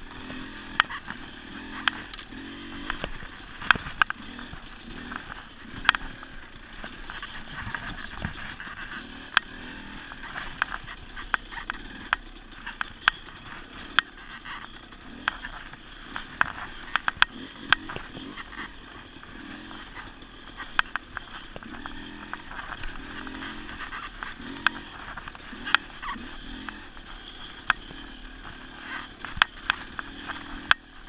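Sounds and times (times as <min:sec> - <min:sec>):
bike knocking and rattling: 0:00.0 - 0:31.0
dirt bike engine revving: 0:00.0 - 0:31.0.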